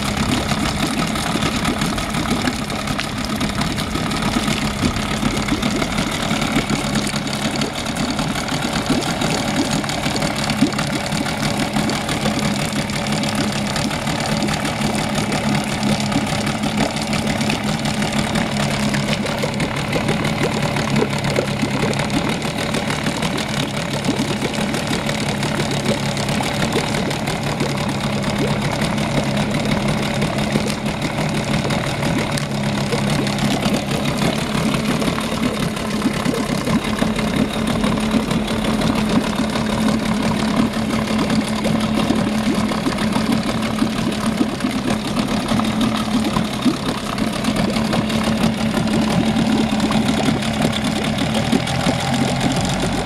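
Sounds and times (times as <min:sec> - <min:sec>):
outboard engine idling: 0:00.0 - 0:53.0
water churning and bubbling: 0:00.0 - 0:53.0.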